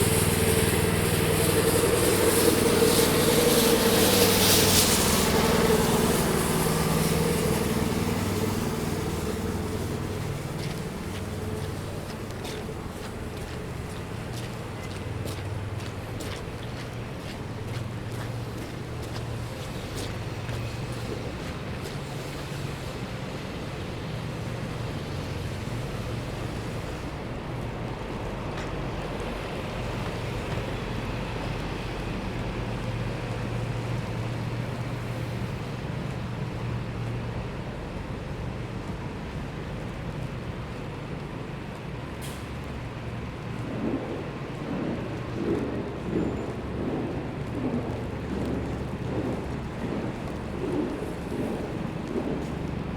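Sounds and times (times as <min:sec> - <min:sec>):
low engine hum: 0:00.0 - 0:52.9
traffic rumble: 0:00.0 - 0:52.9
wind: 0:00.0 - 0:52.9.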